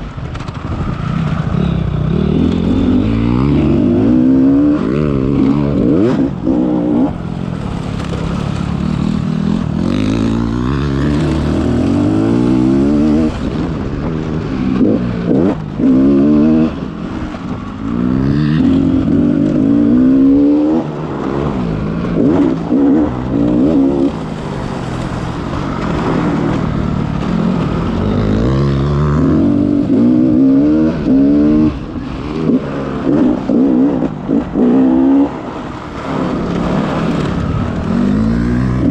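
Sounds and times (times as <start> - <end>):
motocross bike engine accelerating: 0.0 - 38.9.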